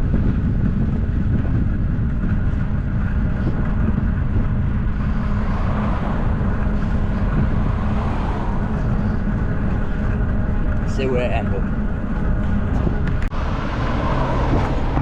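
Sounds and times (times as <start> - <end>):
bicycle tyres rolling: 0.0 - 15.0
wind rumble on microphone: 0.0 - 15.0.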